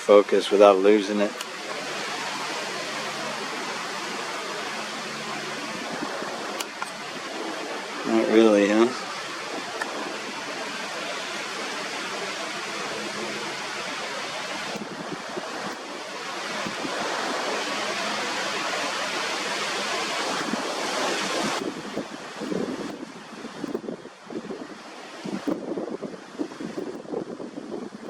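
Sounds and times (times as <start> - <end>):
ocean surf: 0.0 - 28.0
wind buffeting microphone: 0.4 - 28.0.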